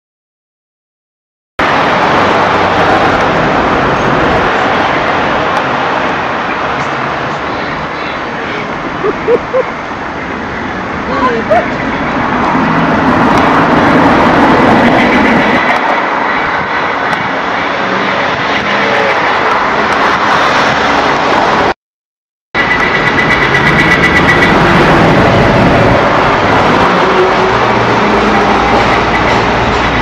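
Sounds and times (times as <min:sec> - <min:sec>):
rushing vehicle noise: 0:01.6 - 0:21.8, 0:22.6 - 0:30.0.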